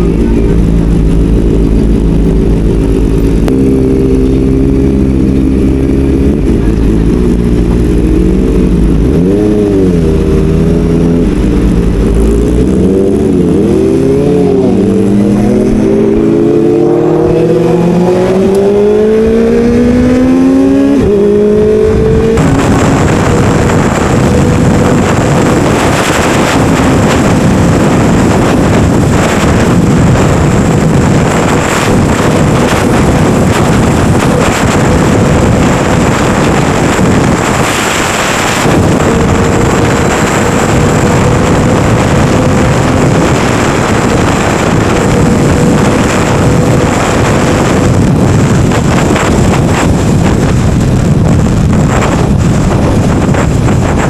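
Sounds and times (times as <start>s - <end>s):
motorcycle engine running: 0.0s - 54.0s
road noise: 0.0s - 54.0s
wind rush on microphone: 0.0s - 54.0s.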